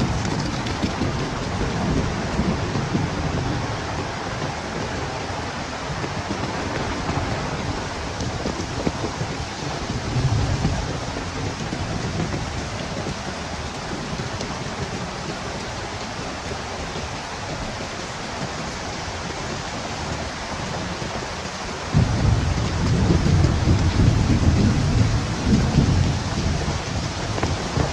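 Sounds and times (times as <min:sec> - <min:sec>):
deep thunder rumble: 0:00.0 - 0:27.9
heavy rain: 0:00.0 - 0:27.9
wind: 0:00.0 - 0:27.9.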